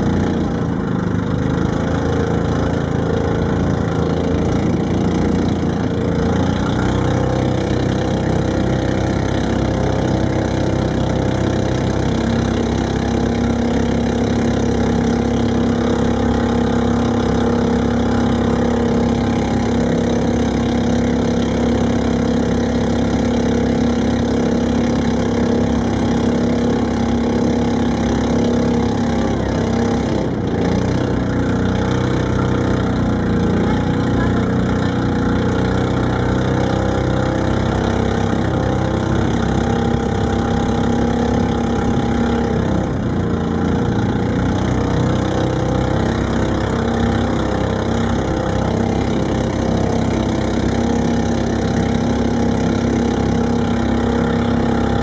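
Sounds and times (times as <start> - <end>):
boat engine drone: 0.0 - 55.0.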